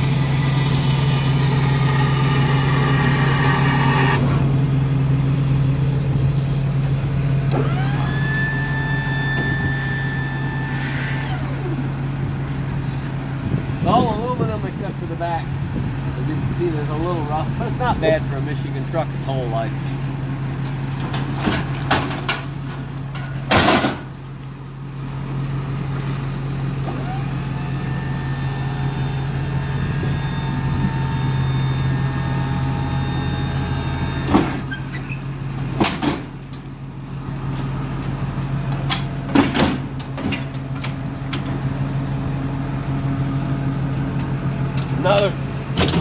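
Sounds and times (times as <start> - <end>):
truck engine idling: 0.0 - 46.0.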